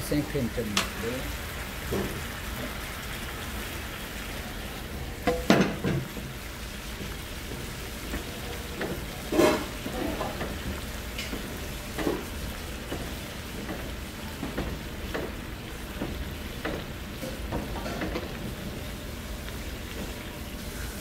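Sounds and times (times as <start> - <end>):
sauce sizzling in frying pan: 0.0 - 21.0.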